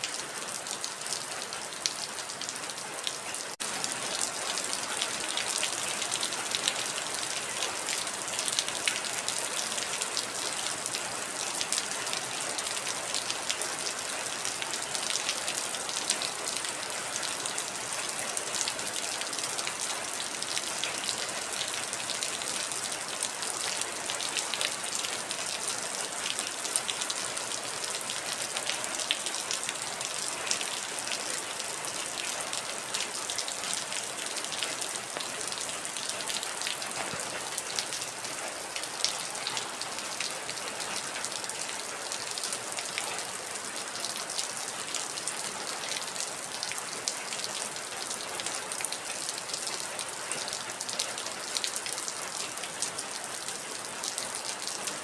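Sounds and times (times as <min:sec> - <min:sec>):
heavy rain: 0:00.0 - 0:55.0
raindrops pattering on a surface: 0:00.0 - 0:55.0.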